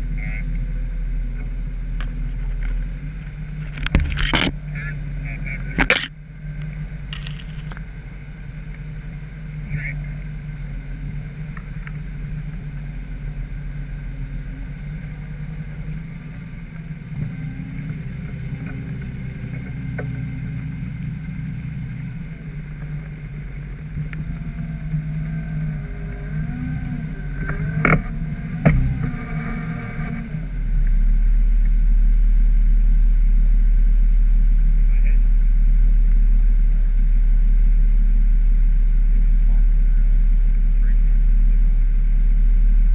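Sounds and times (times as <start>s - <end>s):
car engine running: 0.0s - 42.9s
deep low rumble: 0.0s - 42.9s.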